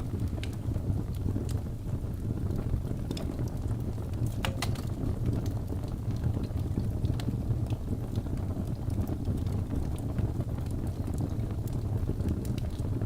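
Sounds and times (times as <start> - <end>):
fire crackles and pops: 0.0 - 13.0
flames rumbling: 0.0 - 13.0.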